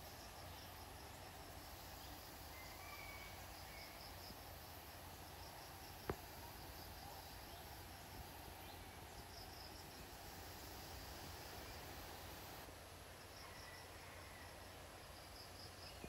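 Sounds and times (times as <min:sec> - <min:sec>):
insect chirping in rapid pulses: 0:00.0 - 0:16.0
steady low hiss: 0:00.0 - 0:16.0.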